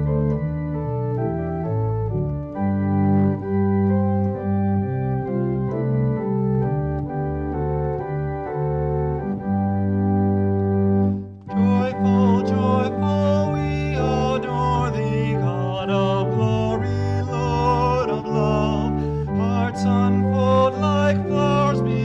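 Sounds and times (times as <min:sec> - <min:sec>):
music: 0:00.0 - 0:22.0
organ playing chords: 0:00.0 - 0:22.0.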